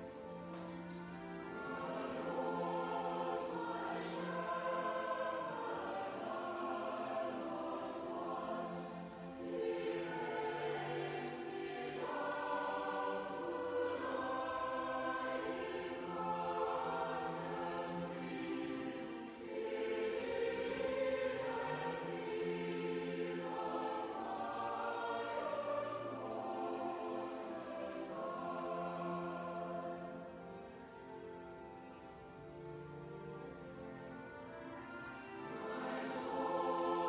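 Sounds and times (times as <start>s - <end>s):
choir singing sacred piece: 0.0s - 37.0s.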